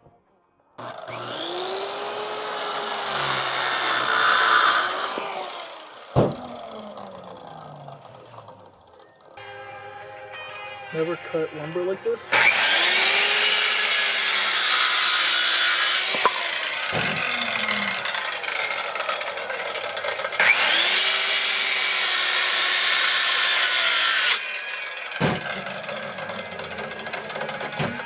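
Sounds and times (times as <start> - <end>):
jigsaw cutting wood: 0.8 - 9.3, 12.3 - 28.0.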